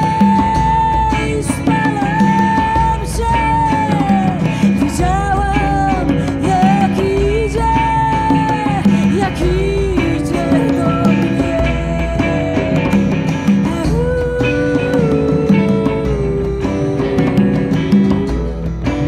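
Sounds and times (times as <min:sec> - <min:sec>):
acoustic guitar: 0:00.0 - 0:19.0
bass guitar: 0:00.0 - 0:19.0
electric guitar: 0:00.0 - 0:19.0
woman singing: 0:00.0 - 0:19.0.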